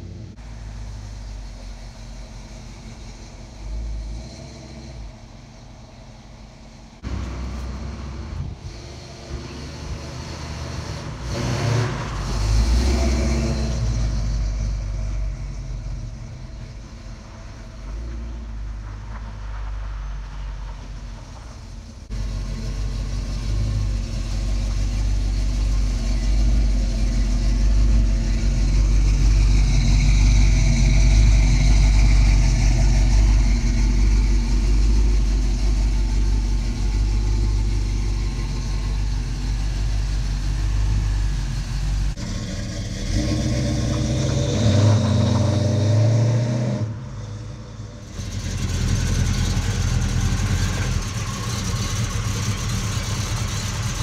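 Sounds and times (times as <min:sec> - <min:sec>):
car engine idling: 0:00.0 - 0:12.9, 0:13.8 - 0:45.3, 0:46.9 - 0:54.0
car engine passing: 0:00.0 - 0:54.0.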